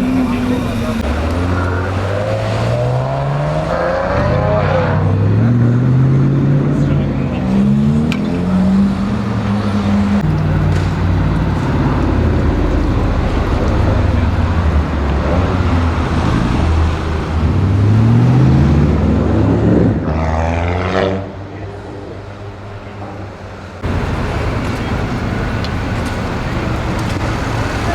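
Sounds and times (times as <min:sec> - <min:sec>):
car engine accelerating: 0:00.0 - 0:21.4, 0:23.8 - 0:27.9
road traffic: 0:00.0 - 0:27.9.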